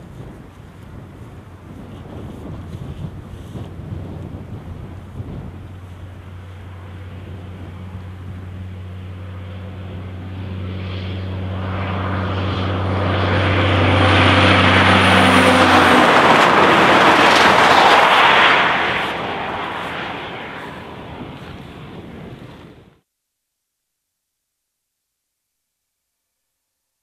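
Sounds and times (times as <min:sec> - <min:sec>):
rush of tyres and trailers: 0:00.0 - 0:22.9
truck engine drone: 0:00.0 - 0:23.0.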